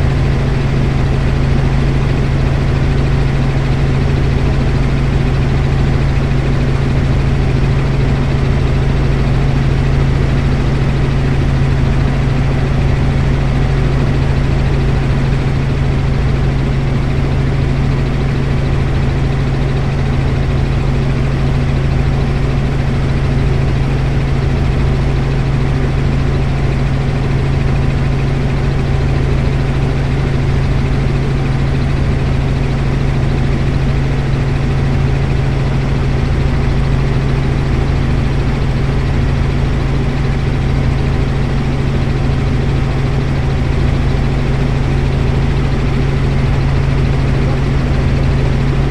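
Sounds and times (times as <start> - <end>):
helicopter rotor and engine: 0.0 - 48.9.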